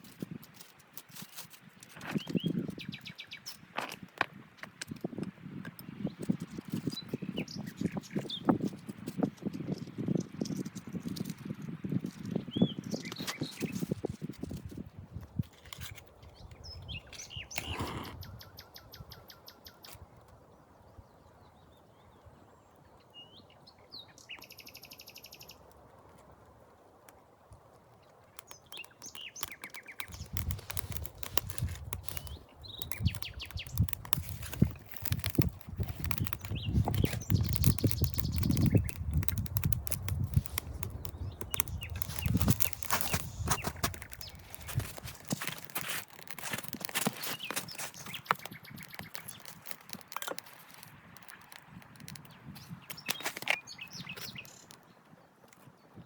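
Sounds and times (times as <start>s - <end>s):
small birds chirping: 0.5s - 3.7s, 4.9s - 26.3s, 27.8s - 56.0s.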